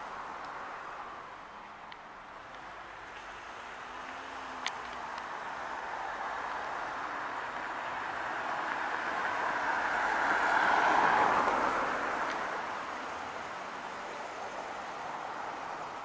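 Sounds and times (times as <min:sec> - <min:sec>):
road vehicle passing by: 0:02.7 - 0:16.0.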